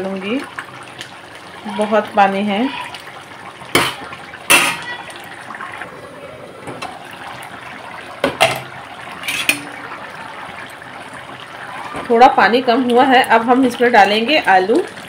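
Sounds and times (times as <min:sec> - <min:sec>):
spinach simmering: 0:00.0 - 0:15.0.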